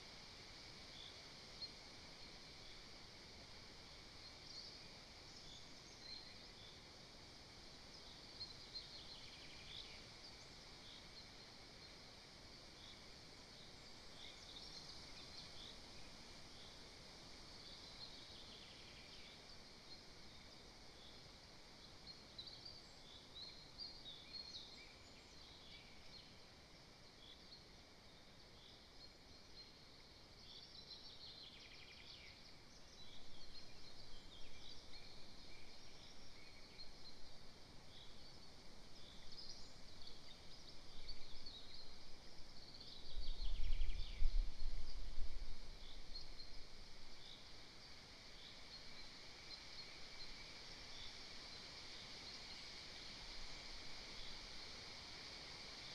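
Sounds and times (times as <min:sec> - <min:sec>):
songbirds chirping: 0:03.8 - 0:55.9.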